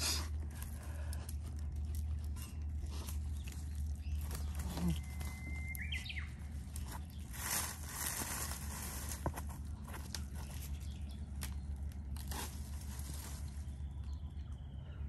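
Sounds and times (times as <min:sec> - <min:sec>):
scuffs and rustles of climbing: 0:00.0 - 0:14.2.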